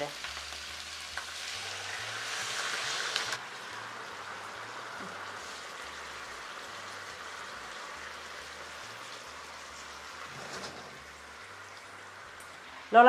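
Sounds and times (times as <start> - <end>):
chicken sizzling in a hot pan: 0.0 - 13.0.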